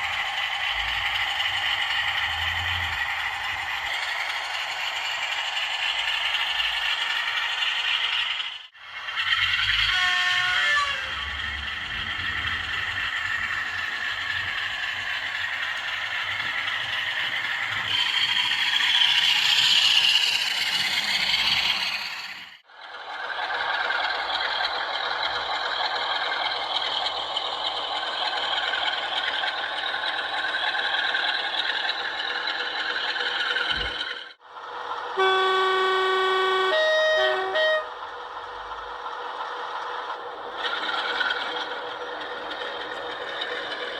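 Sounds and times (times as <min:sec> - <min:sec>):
model locomotive engine sound: 0:00.0 - 0:43.9
model train wheels clattering: 0:00.0 - 0:43.9.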